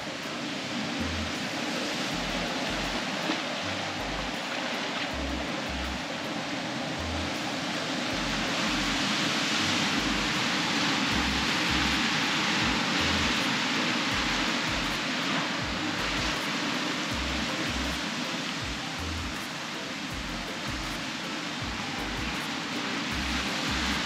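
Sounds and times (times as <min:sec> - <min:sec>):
surf breaking over rocks: 0:00.0 - 0:24.0.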